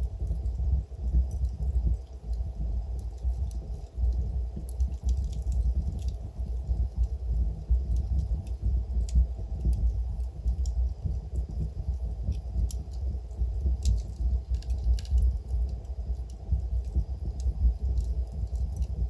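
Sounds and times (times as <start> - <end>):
logs crackling and popping: 0.0 - 19.0
low fire rumble: 0.0 - 19.0.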